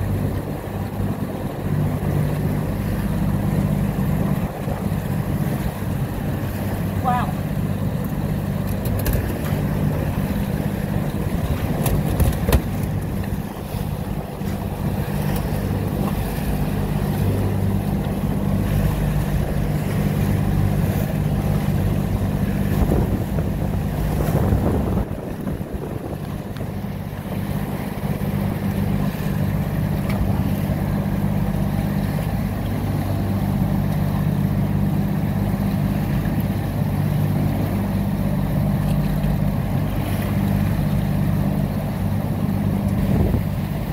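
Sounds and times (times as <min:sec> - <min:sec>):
boat engine running: 0:00.0 - 0:43.9
wind: 0:00.0 - 0:43.9.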